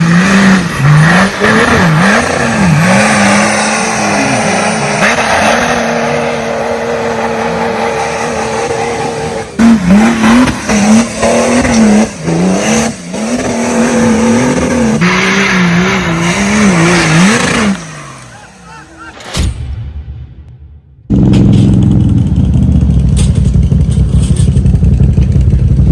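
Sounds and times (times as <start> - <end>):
off-road vehicle engine revving: 0.0 - 18.7, 21.1 - 25.9.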